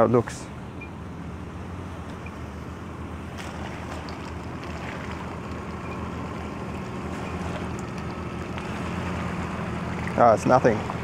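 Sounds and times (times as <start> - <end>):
car engine at low revs: 0.0 - 11.0
water washing around tyres: 0.0 - 11.0.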